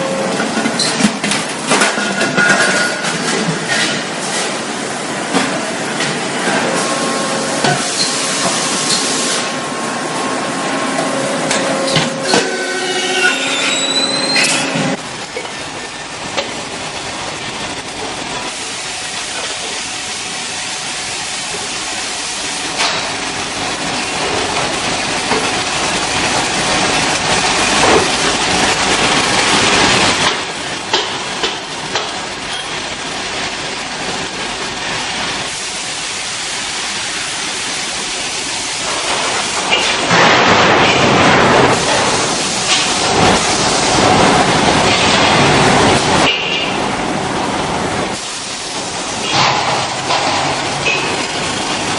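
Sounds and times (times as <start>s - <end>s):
machinery hissing: 3.2s - 51.9s.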